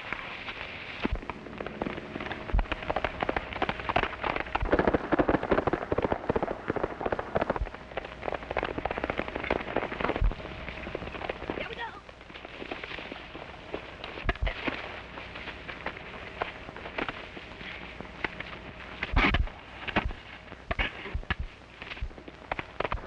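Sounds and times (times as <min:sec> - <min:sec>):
galloping horse hooves: 0:00.0 - 0:23.0.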